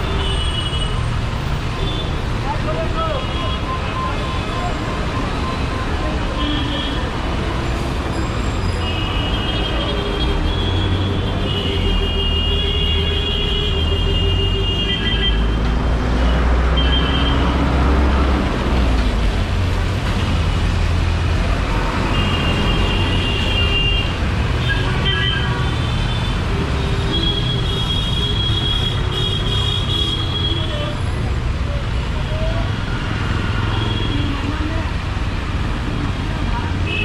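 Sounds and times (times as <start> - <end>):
traffic engines rumbling: 0.0 - 37.0.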